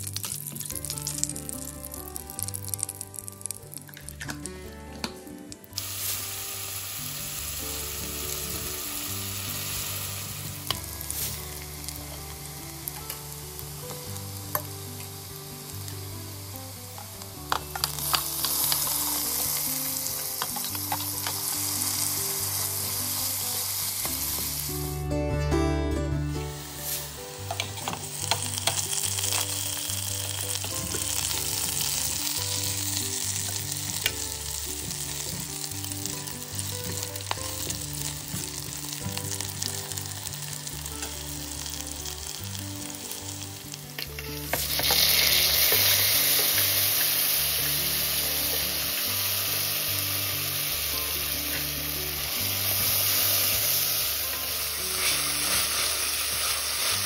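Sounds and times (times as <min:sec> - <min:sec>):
food sizzling in oil: 0:00.0 - 0:04.5, 0:05.4 - 0:25.0, 0:26.5 - 0:57.0
soft background music: 0:00.0 - 0:57.0.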